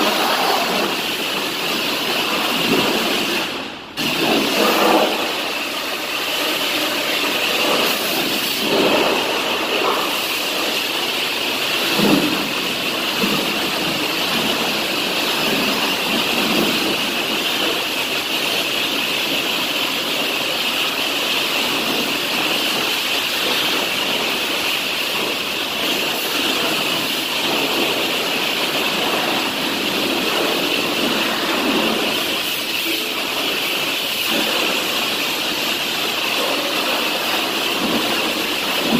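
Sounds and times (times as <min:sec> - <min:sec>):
high-pressure water spray hissing: 0:00.0 - 0:38.9.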